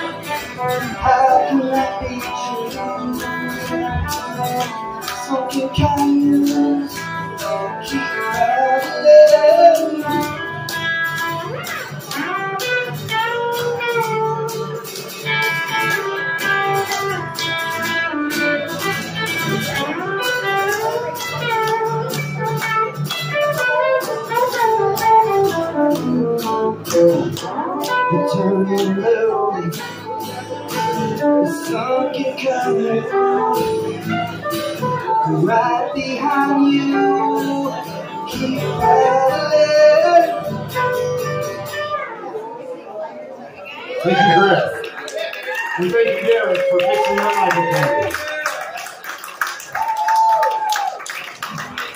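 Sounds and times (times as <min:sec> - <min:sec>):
strummed acoustic guitar: 0:00.0 - 0:42.5
electric guitar solo with bends: 0:00.0 - 0:44.8.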